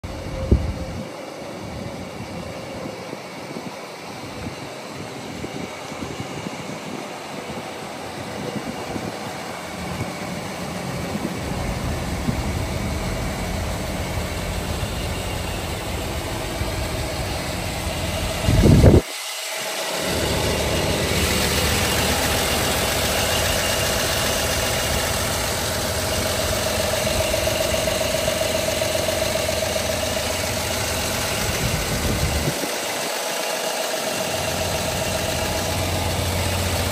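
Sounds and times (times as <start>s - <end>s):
truck engine idling: 0.0s - 36.9s.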